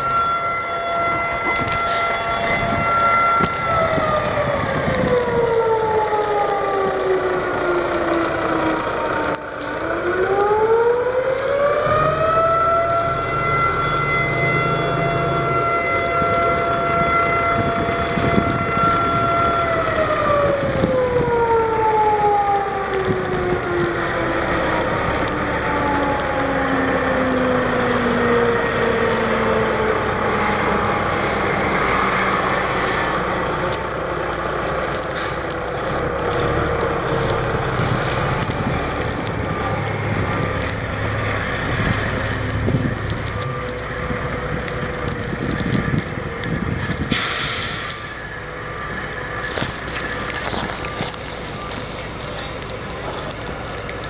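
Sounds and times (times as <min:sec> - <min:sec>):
wind noise: 0:00.0 - 0:12.5, 0:13.1 - 0:54.0
warning siren wailing: 0:00.0 - 0:54.0.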